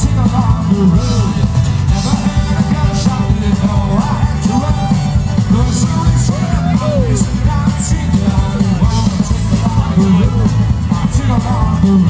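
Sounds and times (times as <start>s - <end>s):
live folk-rock band: 0.0s - 12.0s
sliding melody line: 0.0s - 12.0s.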